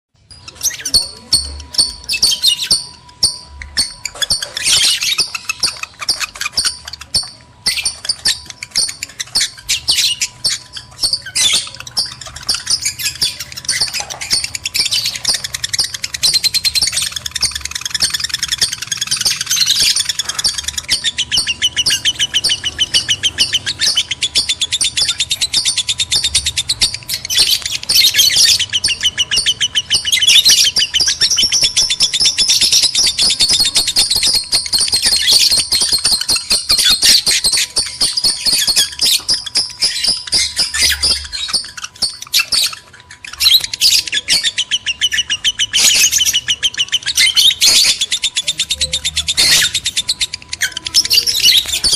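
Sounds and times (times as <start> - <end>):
lovebirds chirping and trilling: 0.2 - 51.9.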